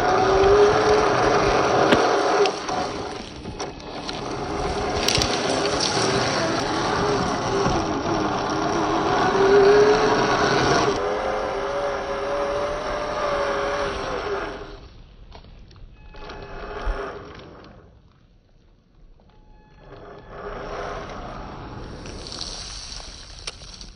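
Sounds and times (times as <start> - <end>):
gritty rustle: 0.0 - 11.0, 12.2 - 23.9
electric motor whining: 0.0 - 14.9, 16.0 - 18.0, 19.4 - 23.8
faint ticks and scrapes: 0.1 - 11.0, 14.7 - 23.9.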